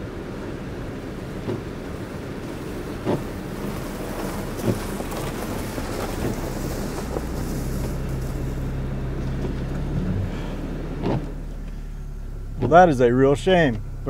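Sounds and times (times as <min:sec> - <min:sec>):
wind buffeting microphone: 0:00.0 - 0:11.7
low engine hum: 0:00.0 - 0:14.0
tyre and road noise: 0:00.0 - 0:14.0.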